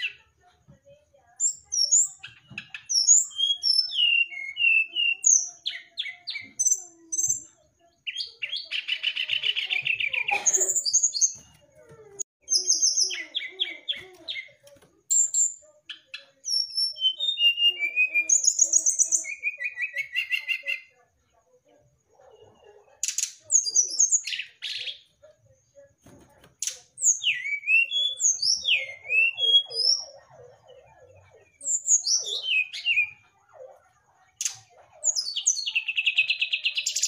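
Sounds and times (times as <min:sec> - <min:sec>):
bird singing: 0:01.4 - 0:21.0, 0:22.1 - 0:25.2, 0:26.4 - 0:37.0.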